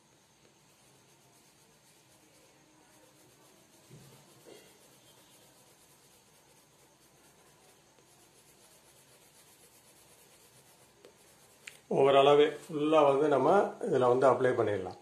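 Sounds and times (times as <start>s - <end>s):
low room hiss: 0.0s - 15.0s
pencil scratching on paper: 0.1s - 13.4s.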